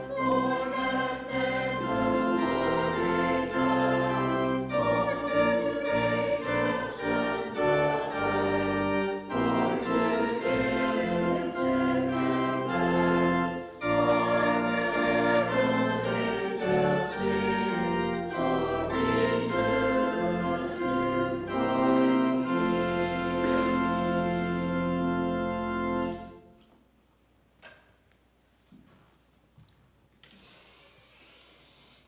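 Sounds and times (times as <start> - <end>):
organ playing chords: 0.0 - 26.7.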